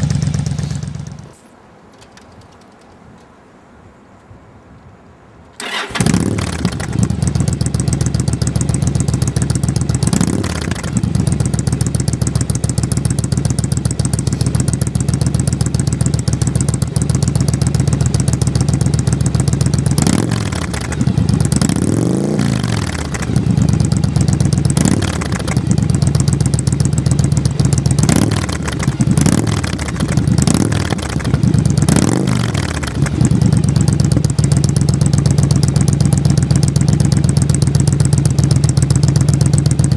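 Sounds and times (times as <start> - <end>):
motorcycle engine idling and revving: 0.0 - 1.4, 5.6 - 39.9.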